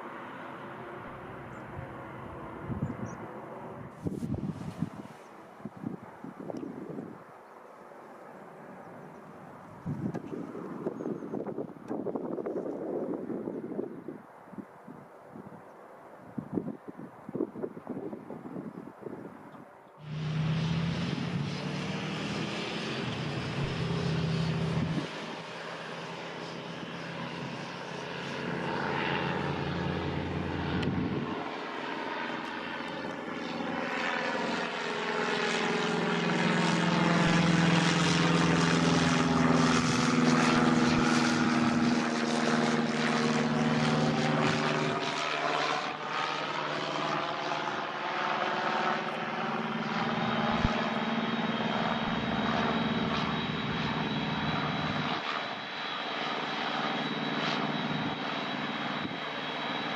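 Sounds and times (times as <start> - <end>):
jet engines at take-off: 0.0 - 59.9.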